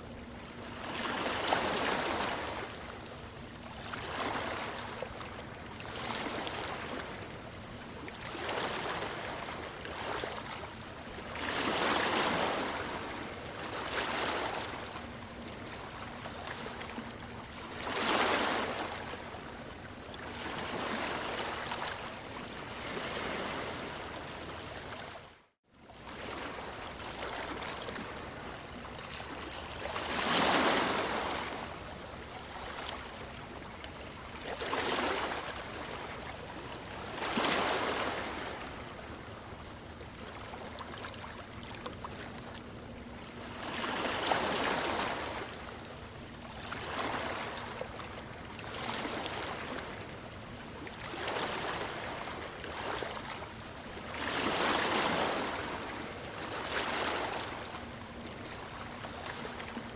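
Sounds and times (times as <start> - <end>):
ocean waves breaking on beach: 0.0 - 25.2, 26.0 - 59.9.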